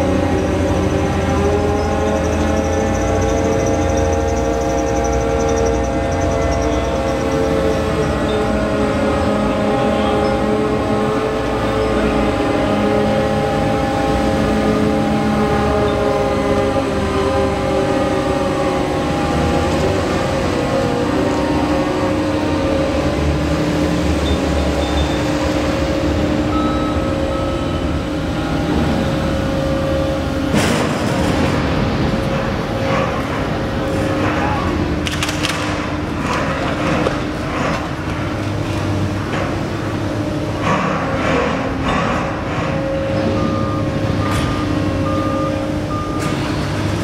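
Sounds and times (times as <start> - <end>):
crane machinery humming: 0.0 - 47.0.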